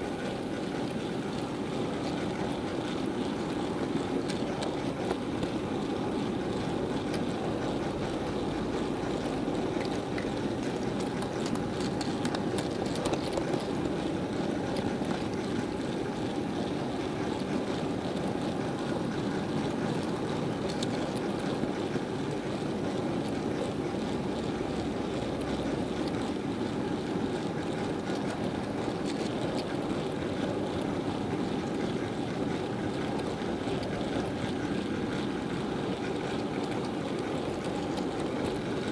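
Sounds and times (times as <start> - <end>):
model train wheels rolling on track: 0.0 - 38.9
wagon vibration: 0.0 - 38.9.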